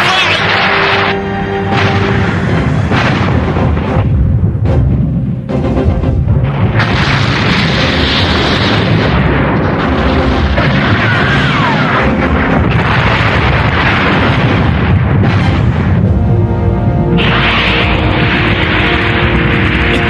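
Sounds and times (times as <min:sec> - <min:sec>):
cartoon explosions and cannon blasts: 0:00.0 - 0:20.0.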